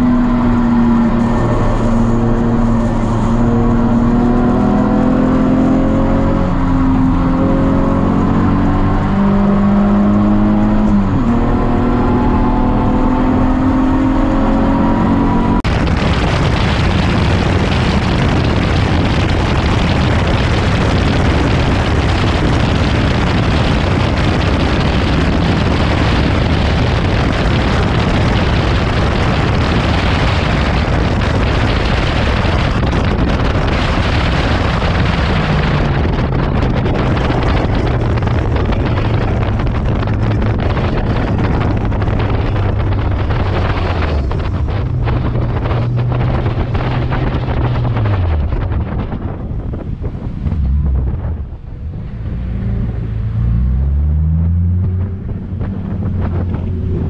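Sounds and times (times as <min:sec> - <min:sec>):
race car engine pulling hard: 0:00.0 - 0:57.0
wind rushing over microphone: 0:00.0 - 0:57.0.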